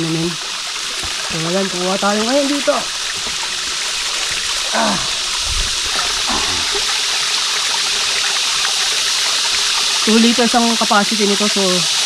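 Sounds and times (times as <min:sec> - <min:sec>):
water bladder filling: 0:00.0 - 0:10.1
stream trickling: 0:00.0 - 0:12.0.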